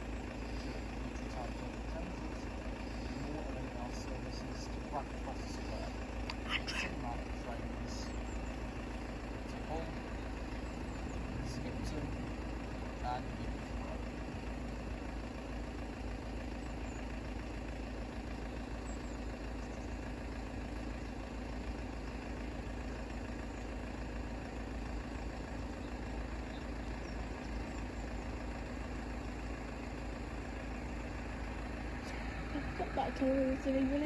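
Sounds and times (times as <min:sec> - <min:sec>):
constant low rumble: 0:00.0 - 0:34.0
vehicle engine idling: 0:00.0 - 0:34.0.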